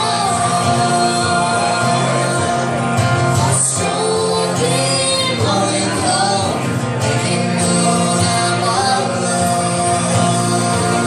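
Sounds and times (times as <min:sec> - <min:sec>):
guitar accompaniment: 0:00.0 - 0:11.0
woman singing into a microphone: 0:00.0 - 0:11.0.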